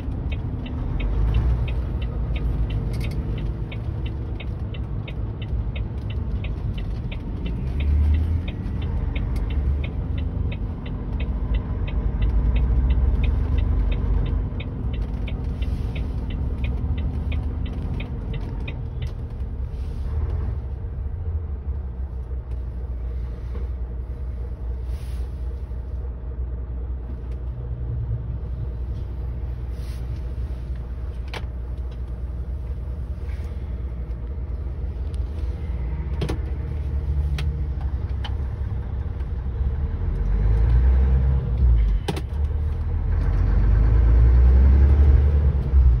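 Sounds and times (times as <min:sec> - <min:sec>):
truck engine and road rumble: 0:00.0 - 0:46.0.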